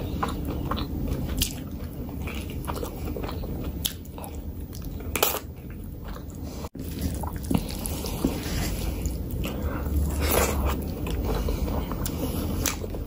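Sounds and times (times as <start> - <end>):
close chewing and biting: 0.0 - 13.0.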